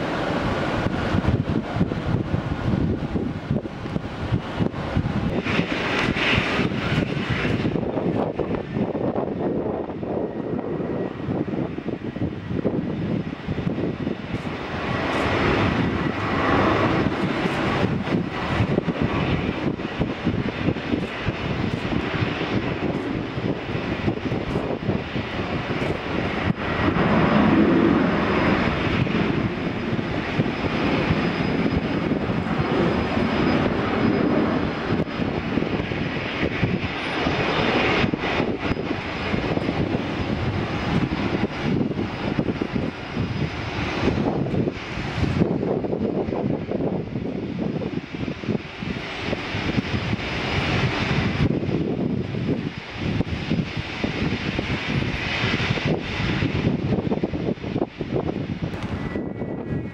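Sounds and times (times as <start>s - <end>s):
jet engines roaring at takeoff: 0.0s - 59.9s.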